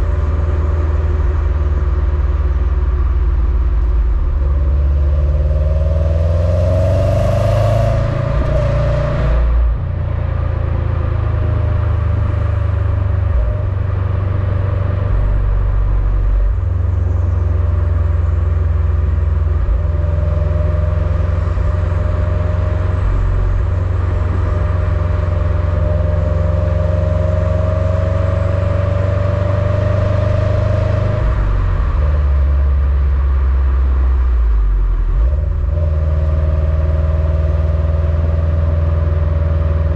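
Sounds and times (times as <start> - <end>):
car exhaust rumble: 0.0 - 39.9.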